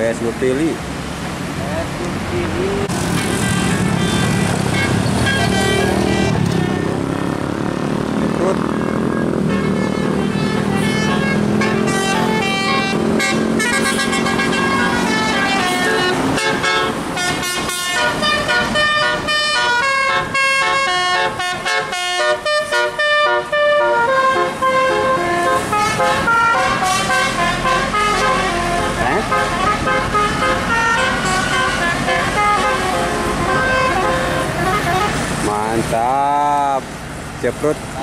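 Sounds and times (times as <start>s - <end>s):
bus diesel engine running: 0.0s - 38.0s
musical air horns playing melodies: 2.8s - 7.3s, 8.6s - 35.8s.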